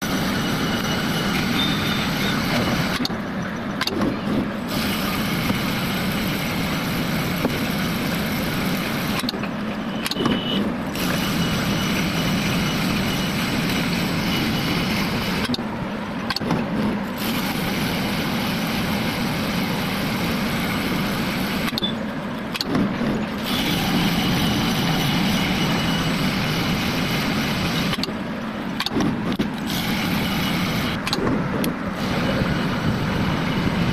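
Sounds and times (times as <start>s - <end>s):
winding machine hum and whir: 0.0s - 33.9s.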